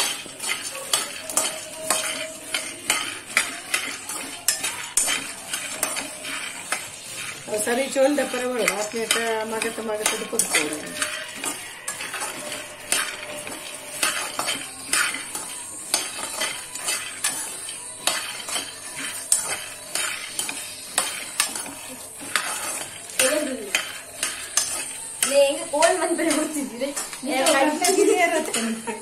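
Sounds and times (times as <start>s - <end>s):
peanuts rattling in metal pan: 0.0s - 29.0s.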